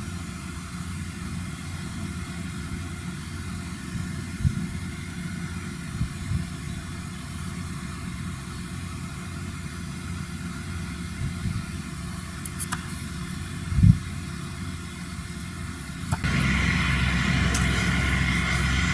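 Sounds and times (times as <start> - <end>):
tractor engine humming: 0.0 - 18.9.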